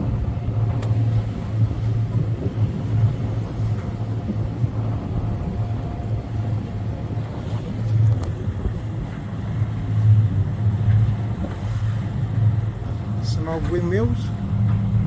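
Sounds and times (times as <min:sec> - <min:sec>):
boat engine droning: 0:00.0 - 0:15.0
water noise: 0:00.0 - 0:15.0
wind on microphone: 0:00.0 - 0:15.0.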